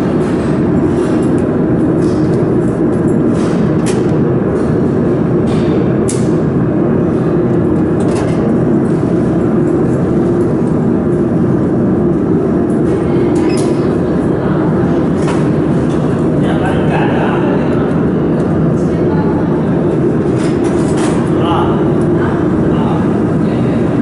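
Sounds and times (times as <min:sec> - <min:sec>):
loud machine hum: 0:00.0 - 0:24.0.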